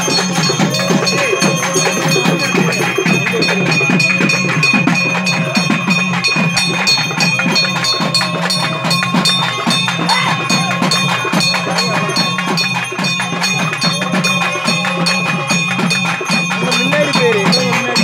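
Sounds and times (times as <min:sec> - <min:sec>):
crowd voices: 0:00.0 - 0:18.0
fast drumming: 0:00.0 - 0:18.0
high ringing metallic tones: 0:00.0 - 0:18.0.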